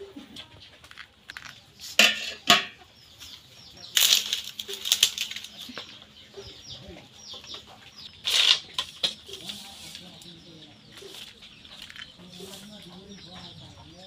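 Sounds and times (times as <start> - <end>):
bamboo sticks and straw rustling: 0.0 - 6.1, 7.0 - 13.8
small birds chirping: 0.0 - 14.0.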